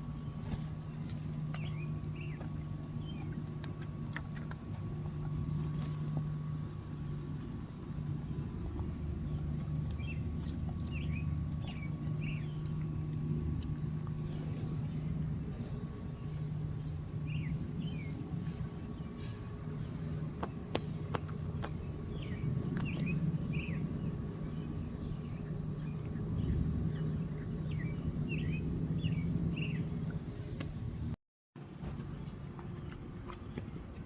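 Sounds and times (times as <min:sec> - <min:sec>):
birds chirping: 0:00.0 - 0:04.1, 0:04.8 - 0:31.1
low outdoor hum: 0:00.0 - 0:34.0.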